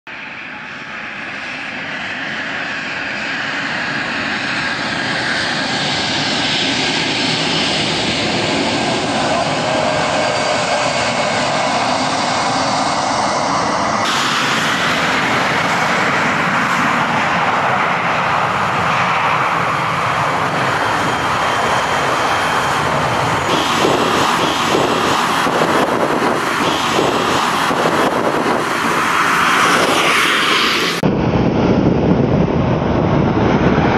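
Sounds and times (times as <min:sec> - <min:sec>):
jet engines whining: 0:00.1 - 0:33.9.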